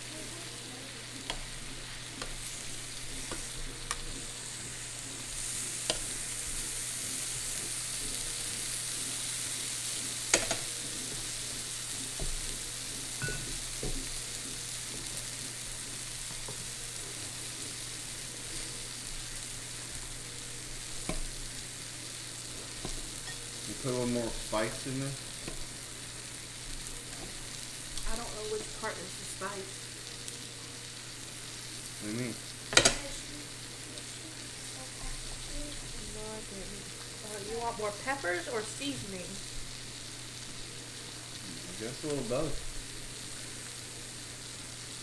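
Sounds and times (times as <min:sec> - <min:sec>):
food sizzling on a grill: 0:00.0 - 0:45.0.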